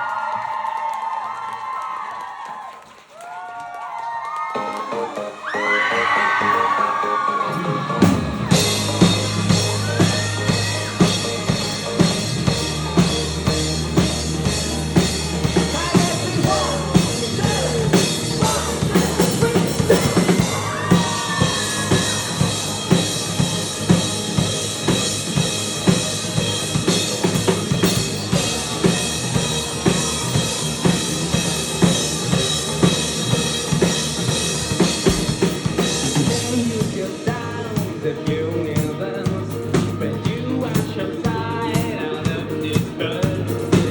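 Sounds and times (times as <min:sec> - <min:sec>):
bass line: 0:05.2 - 0:43.9
live rock band playing: 0:07.5 - 0:43.9
drum kit beat: 0:07.6 - 0:43.9.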